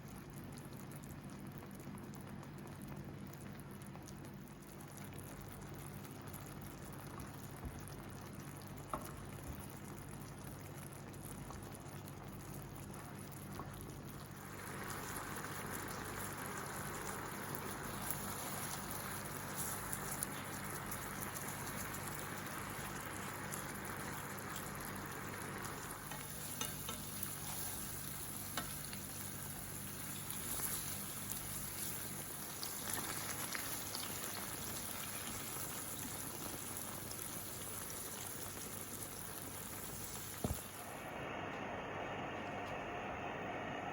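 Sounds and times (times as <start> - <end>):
chicken sizzling in a frying pan: 2.7 - 41.0.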